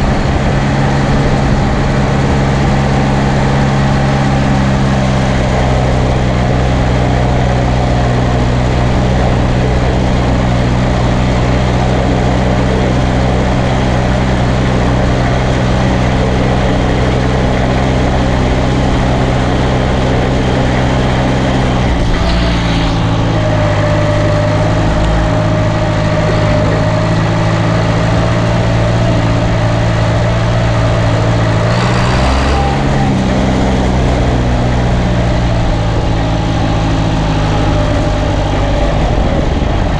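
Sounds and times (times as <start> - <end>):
tractor engine running: 0.0 - 39.9
faint whine: 5.5 - 39.9.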